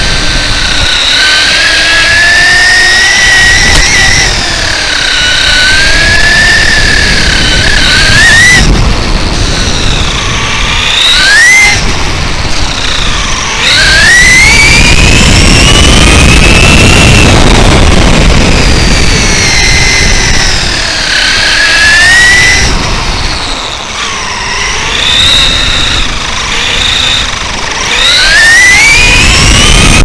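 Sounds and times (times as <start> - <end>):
electric motor whining: 0.0 - 30.0
tyres rumbling on asphalt: 0.0 - 30.0
wind: 0.0 - 30.0.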